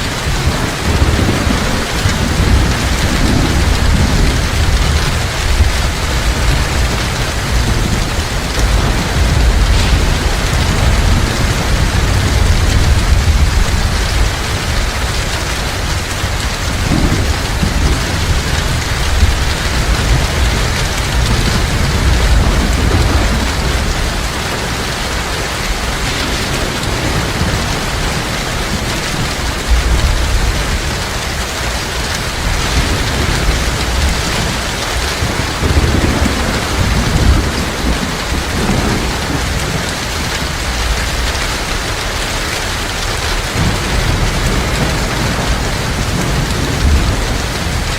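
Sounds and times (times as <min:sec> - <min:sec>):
distant thunder rumbles: 0:00.0 - 0:47.9
heavy rain falling: 0:00.0 - 0:47.9.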